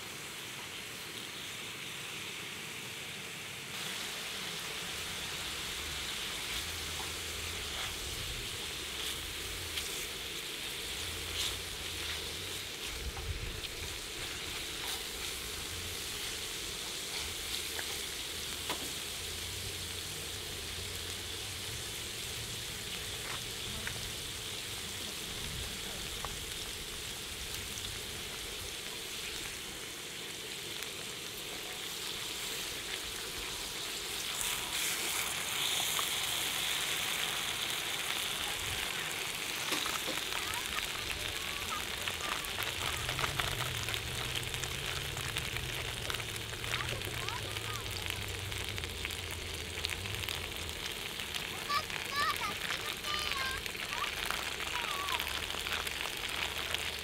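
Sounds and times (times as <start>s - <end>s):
meat sizzling on griddle: 0.0s - 57.0s.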